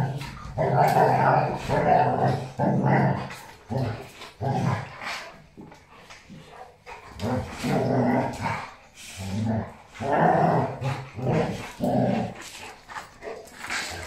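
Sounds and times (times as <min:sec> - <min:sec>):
dogs growling: 0:00.0 - 0:14.0.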